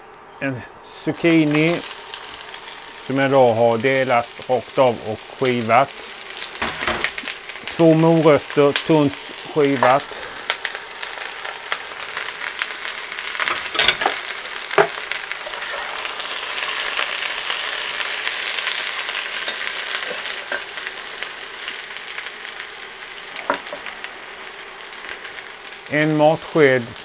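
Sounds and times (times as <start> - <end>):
vegetables sizzling in oil: 0.8 - 27.0.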